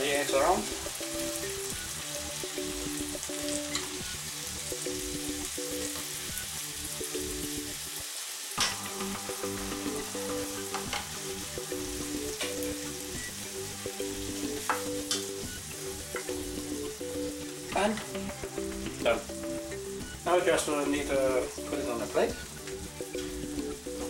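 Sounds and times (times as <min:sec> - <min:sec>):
vegetables sizzling in a frying pan: 0:00.0 - 0:24.0.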